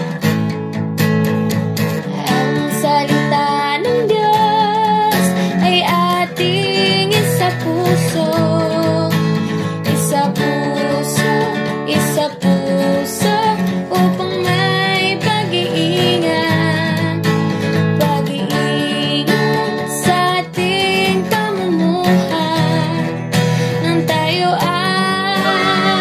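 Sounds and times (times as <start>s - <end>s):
acoustic guitar background music: 0.0s - 26.0s.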